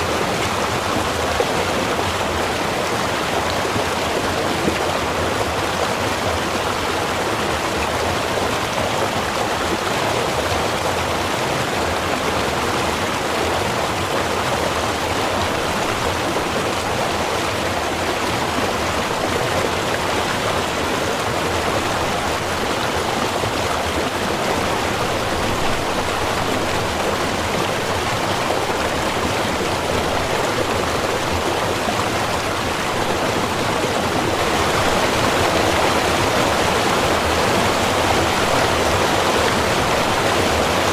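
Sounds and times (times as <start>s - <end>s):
river running over stones: 0.0s - 40.9s.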